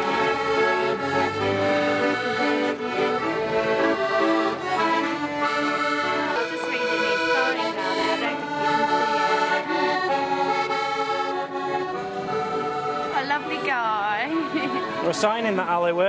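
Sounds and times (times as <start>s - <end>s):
accordion melody over chords: 0.0s - 16.0s.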